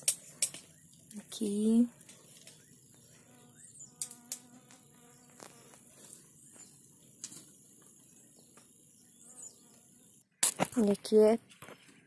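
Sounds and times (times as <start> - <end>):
insects chirring: 0.0 - 10.2.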